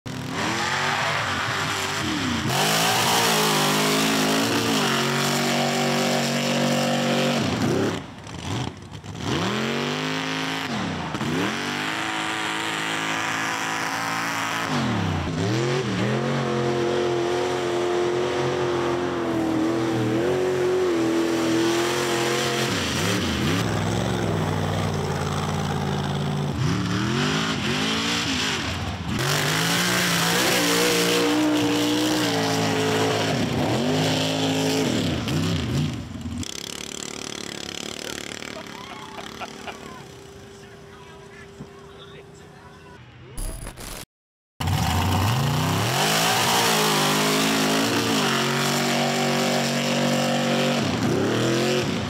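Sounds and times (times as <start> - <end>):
truck engine revving: 0.1 - 41.3, 44.6 - 52.0.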